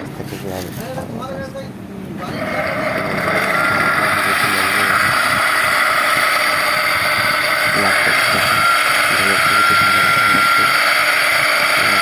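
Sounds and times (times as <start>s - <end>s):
electric motor whining grind: 2.2s - 12.0s.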